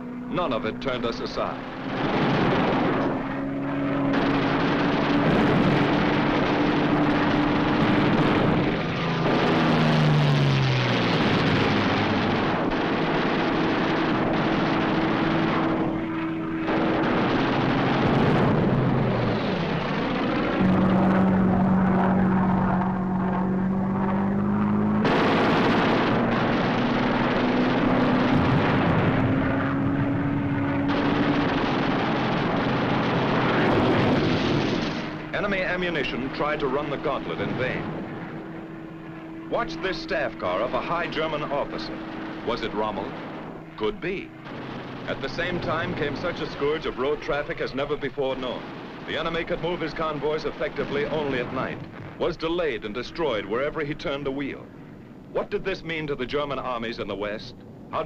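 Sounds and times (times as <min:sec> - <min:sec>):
propeller plane piston engine: 0:00.0 - 0:58.0.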